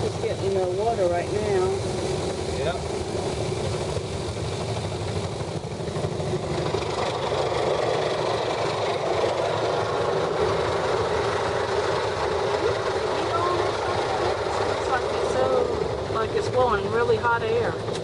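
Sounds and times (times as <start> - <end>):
car engine idling: 0.0 - 18.0
car wash machinery running: 0.0 - 18.0
climate fan blowing: 0.0 - 18.0.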